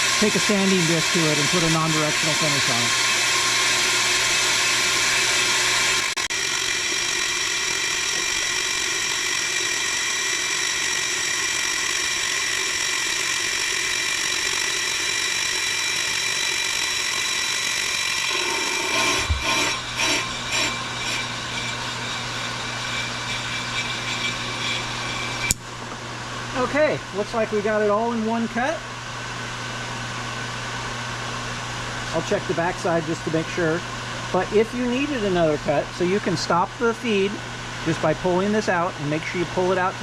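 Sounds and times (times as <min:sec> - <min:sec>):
brake lathe machine whine: 0:00.0 - 0:40.0.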